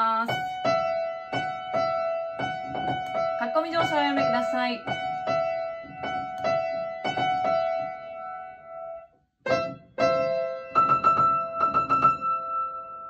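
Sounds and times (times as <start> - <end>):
upright piano chords: 0.0 - 13.0.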